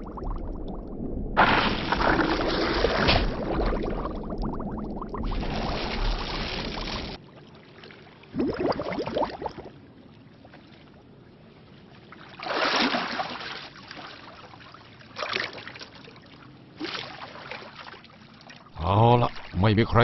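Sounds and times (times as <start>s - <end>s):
water splashing and swirling: 0.0s - 19.6s.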